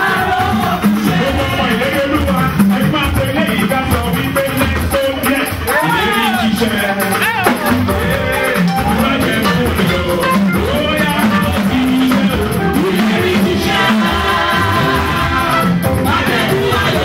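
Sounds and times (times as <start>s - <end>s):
drum kit: 0.0s - 17.0s
guitar: 0.0s - 17.0s
live band playing: 0.0s - 17.0s
person singing: 0.0s - 17.0s.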